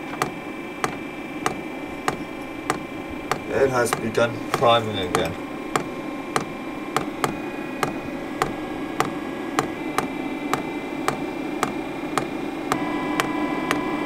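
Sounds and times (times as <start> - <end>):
fuel pump ticking: 0.0 - 13.8
steady whir: 0.0 - 14.0.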